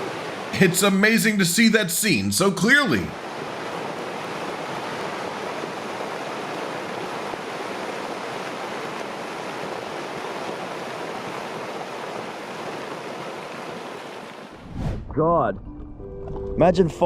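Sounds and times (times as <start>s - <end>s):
rushing churning water: 0.0s - 14.6s.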